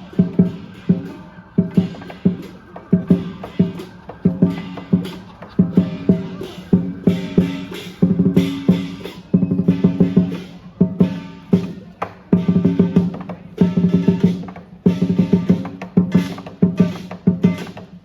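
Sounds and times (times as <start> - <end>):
lion dance drum: 0.0 - 18.0.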